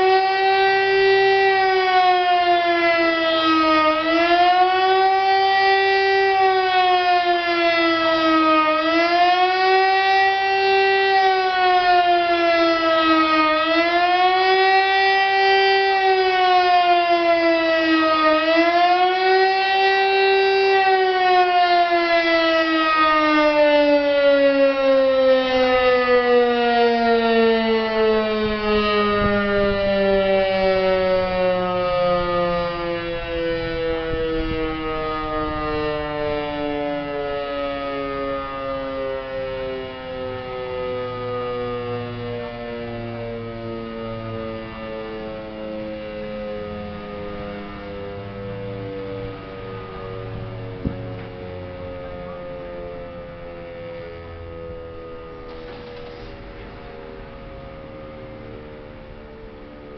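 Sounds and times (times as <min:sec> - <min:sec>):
civil defence siren wailing: 0:00.0 - 0:59.9.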